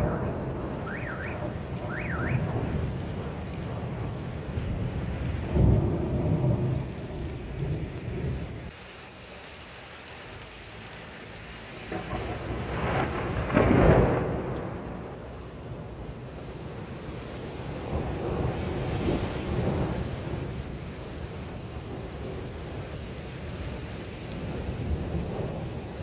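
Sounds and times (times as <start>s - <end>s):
thunder rumbling: 0.0s - 8.8s, 11.8s - 26.0s
heavy rain: 0.0s - 26.0s.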